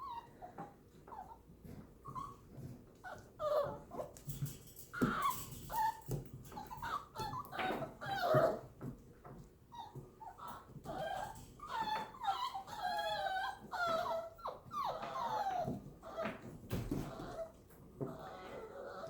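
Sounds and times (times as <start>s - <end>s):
puppies whining: 0.0s - 19.0s.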